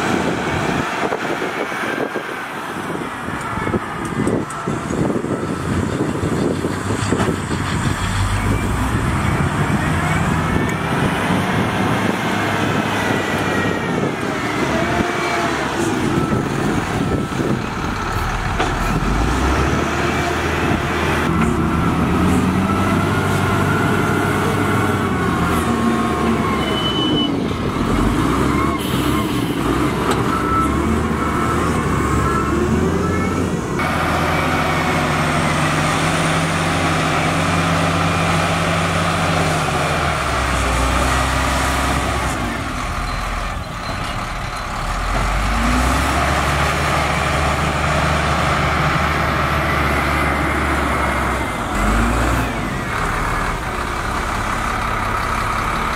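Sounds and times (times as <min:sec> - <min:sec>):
wheel loader diesel engine revving: 0:00.0 - 0:55.9.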